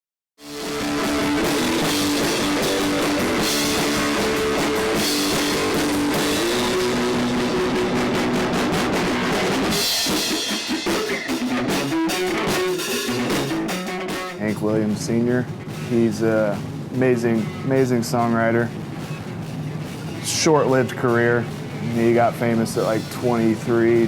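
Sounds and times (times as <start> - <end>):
rock music with drums and guitar: 0.4 - 24.0.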